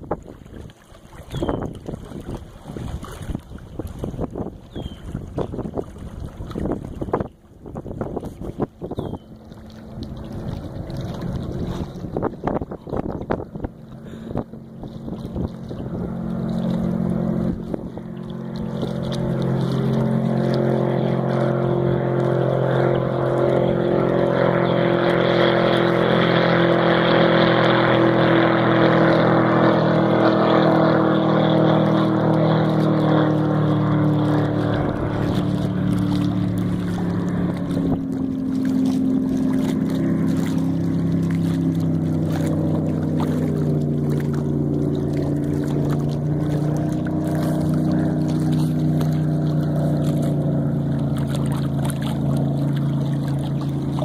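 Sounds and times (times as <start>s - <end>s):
boat engine passing by: 0.0s - 54.0s.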